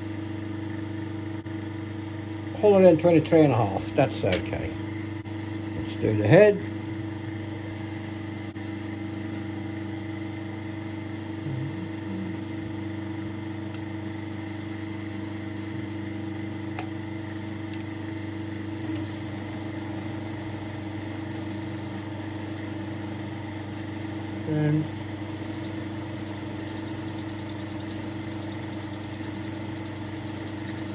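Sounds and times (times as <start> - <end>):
lathe motor humming: 2.6 - 17.6, 18.3 - 30.9.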